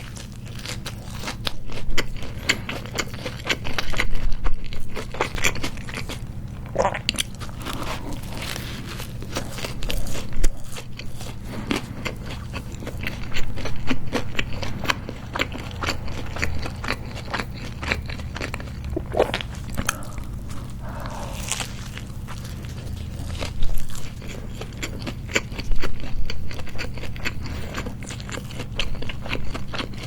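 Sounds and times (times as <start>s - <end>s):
crunching and chewing food: 0.0s - 30.0s
steady low hum: 0.0s - 30.0s.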